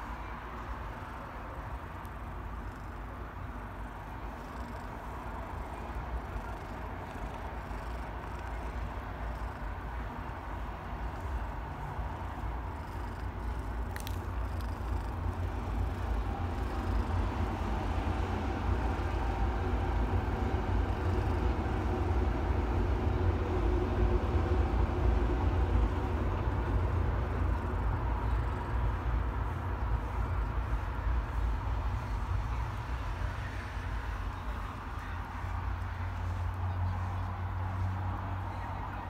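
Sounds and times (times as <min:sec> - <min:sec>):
cat purring: 0:00.2 - 0:23.3, 0:24.8 - 0:35.4.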